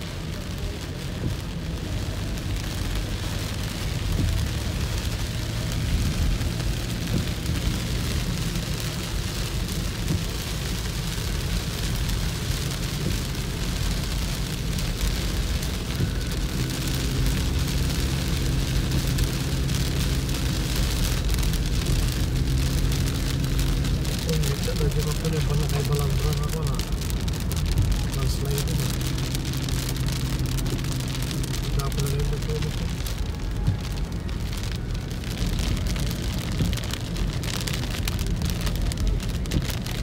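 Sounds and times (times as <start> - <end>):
car low hum: 0.0 - 40.0
heavy rain on car roof: 0.0 - 40.0
tyres on wet road: 0.0 - 40.0.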